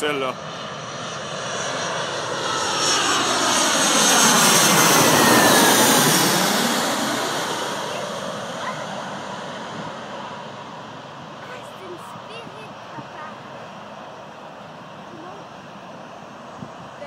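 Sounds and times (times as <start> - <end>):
jet airliner passing overhead: 0.0 - 17.0.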